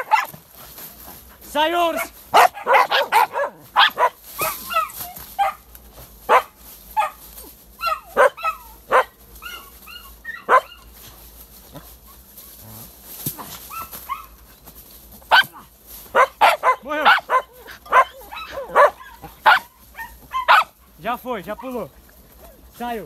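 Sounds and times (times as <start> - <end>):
dogs barking and yelping: 0.0 - 0.5, 1.9 - 14.6, 15.2 - 22.8.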